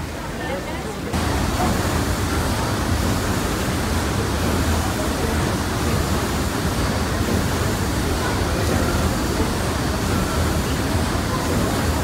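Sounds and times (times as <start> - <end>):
steam engine low rumble: 1.2 - 12.0.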